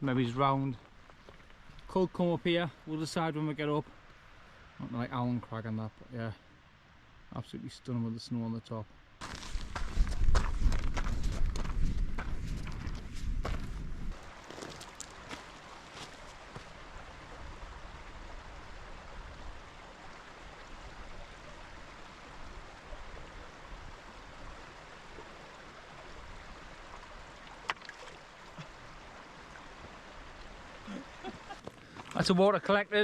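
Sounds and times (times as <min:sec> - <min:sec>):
stream running: 0:00.0 - 0:08.4, 0:09.2 - 0:33.0.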